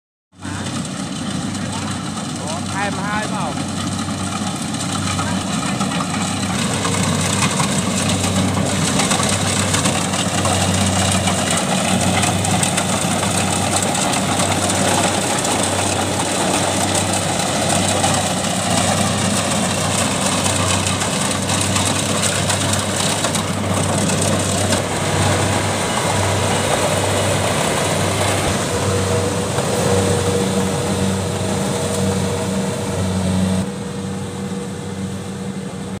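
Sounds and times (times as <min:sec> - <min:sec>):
combine harvester engine and machinery: 0:00.4 - 0:36.0.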